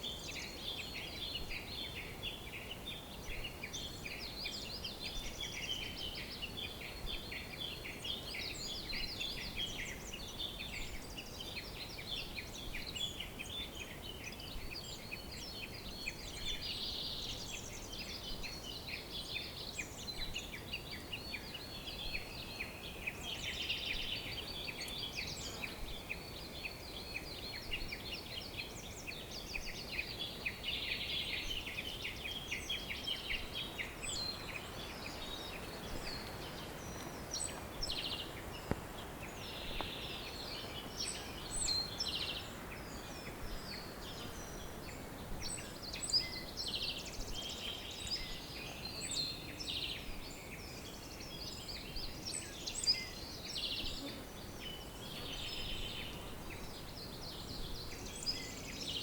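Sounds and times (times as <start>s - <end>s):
songbirds chirping and trilling: 0.0s - 59.0s
steady background hiss: 0.0s - 59.0s.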